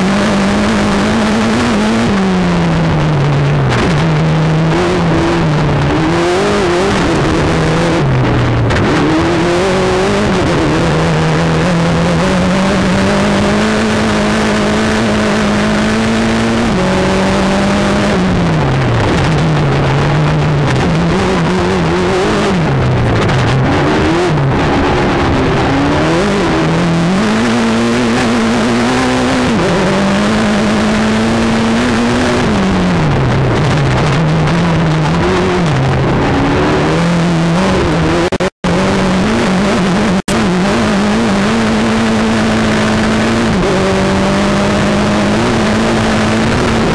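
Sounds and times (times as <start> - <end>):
car engine revving: 0.0 - 46.9
road and chassis noise: 0.0 - 46.9.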